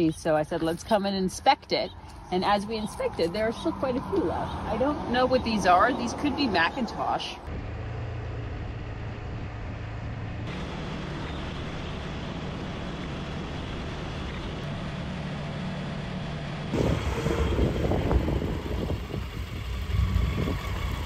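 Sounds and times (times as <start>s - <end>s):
motorcycle engines droning: 0.0s - 21.0s
road and wind noise: 0.0s - 21.0s.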